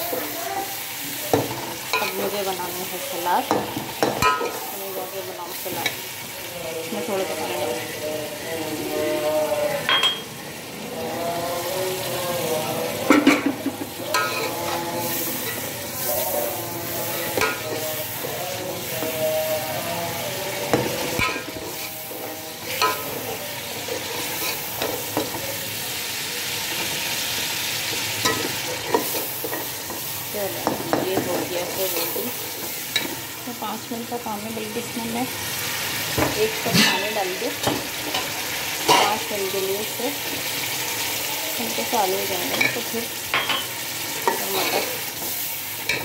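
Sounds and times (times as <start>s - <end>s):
vegetables sizzling in a pot: 0.0s - 46.0s.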